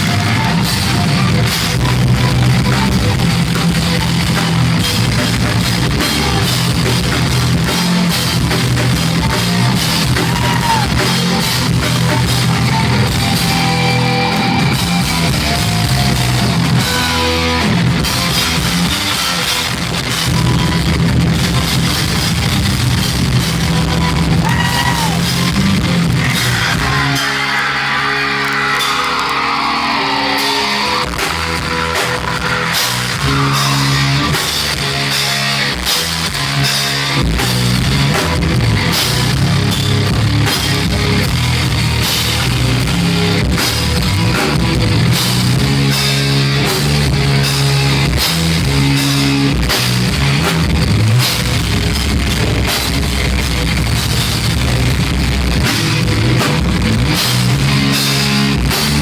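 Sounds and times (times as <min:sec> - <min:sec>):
distorted electric guitars riffing: 0:00.0 - 0:59.0
fast drum kit: 0:00.0 - 0:59.0.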